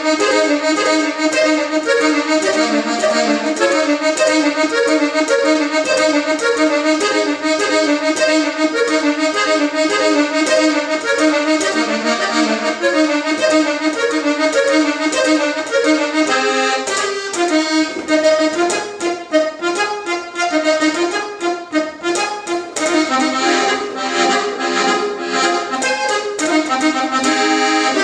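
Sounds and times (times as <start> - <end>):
accordion playing quick melody: 0.0 - 28.0.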